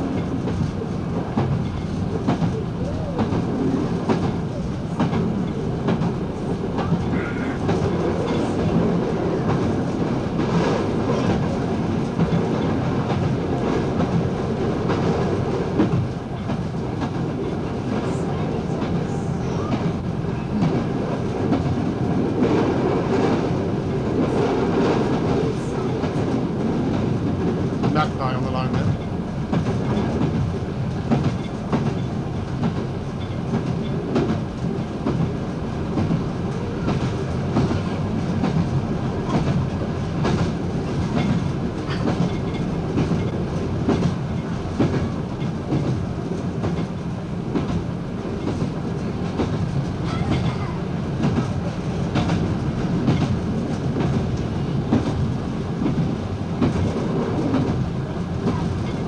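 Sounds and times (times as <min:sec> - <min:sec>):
train rumbling at speed: 0:00.0 - 0:59.0.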